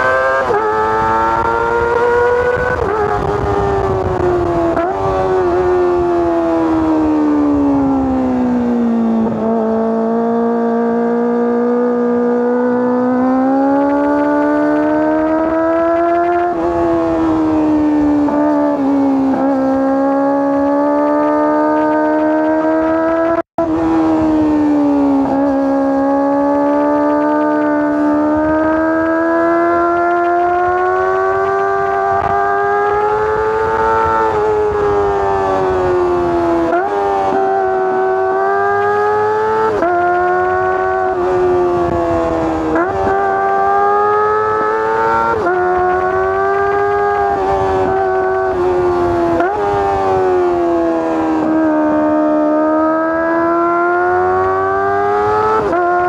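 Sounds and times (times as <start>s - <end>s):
motorcycle engine wailing at high revs: 0.0s - 56.0s.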